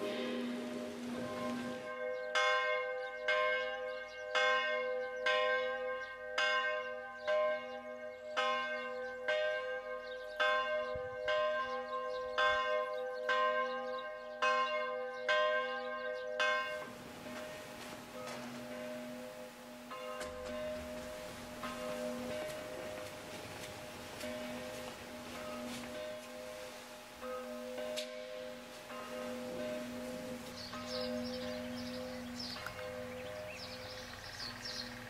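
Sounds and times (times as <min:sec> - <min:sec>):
church bell ringing: 0:00.0 - 0:35.0.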